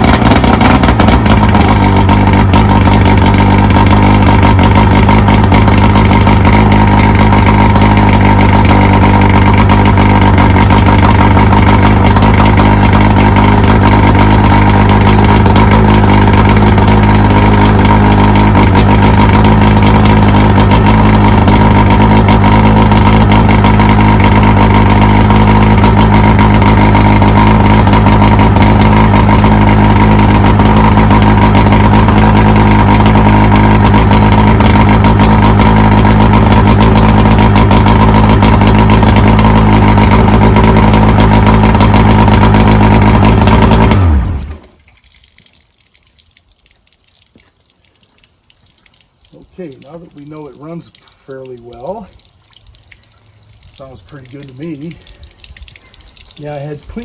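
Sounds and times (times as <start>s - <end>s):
outboard motor running: 0.0s - 46.4s, 47.0s - 57.0s.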